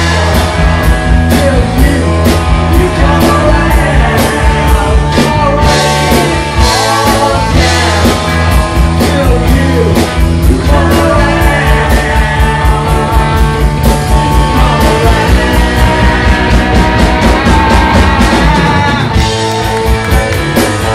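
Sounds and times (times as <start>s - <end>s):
bass guitar: 0.0s - 20.9s
electric guitar: 0.0s - 20.9s
lead vocal singing: 0.0s - 20.9s.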